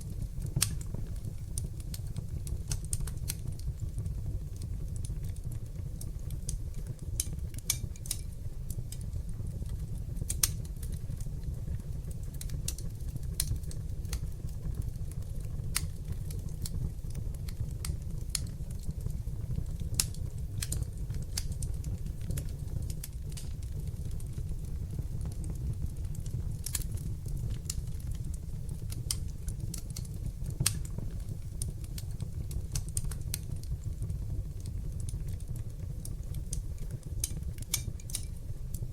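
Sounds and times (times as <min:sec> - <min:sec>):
deep rumble of flames: 0:00.0 - 0:38.9
wood fire crackling and popping: 0:00.0 - 0:38.9.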